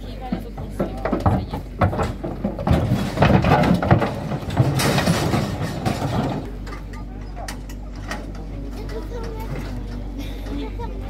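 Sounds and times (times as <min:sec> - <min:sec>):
cattle hooves on steel floor: 0:00.0 - 0:10.1
metal gates rattling: 0:00.0 - 0:10.9.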